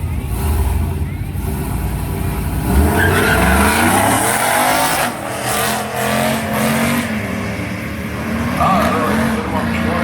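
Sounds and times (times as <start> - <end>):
drag racing engine accelerating: 0.0 - 10.0.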